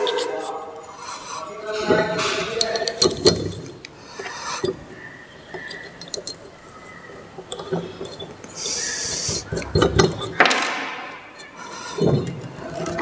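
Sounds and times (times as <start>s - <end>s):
metallic clinks of steel parts: 0.0s - 3.9s, 5.5s - 13.0s.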